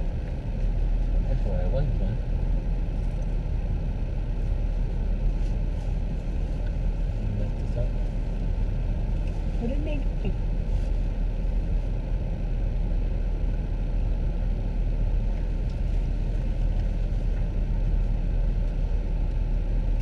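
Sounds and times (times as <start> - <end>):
car engine rumble inside cabin: 0.0 - 20.0.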